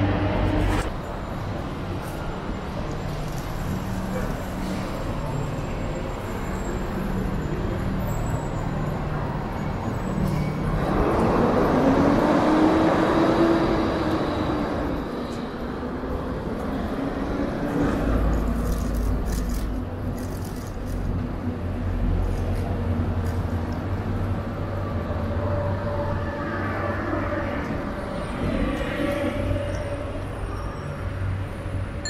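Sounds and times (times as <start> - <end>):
road noise rumble: 0.0 - 32.0.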